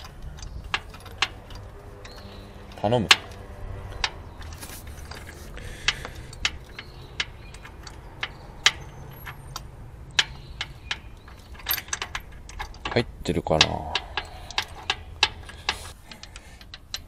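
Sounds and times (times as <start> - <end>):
metallic clicks of hand tools: 0.0 - 17.0.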